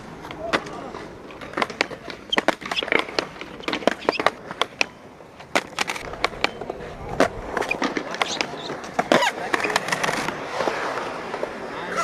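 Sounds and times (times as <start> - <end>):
skateboard wheels rolling: 0.0 - 12.0
skateboards clacking: 0.0 - 12.0.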